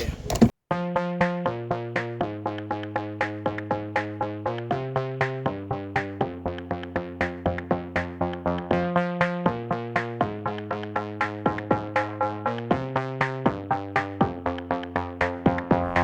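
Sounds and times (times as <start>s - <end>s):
background music with chords: 0.7s - 16.0s
steady beat: 1.2s - 16.0s.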